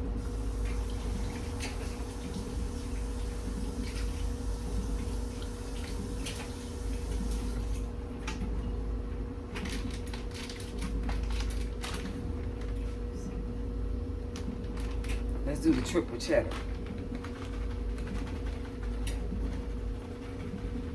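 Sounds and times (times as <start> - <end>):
low hum with faint tone: 0.0 - 20.9.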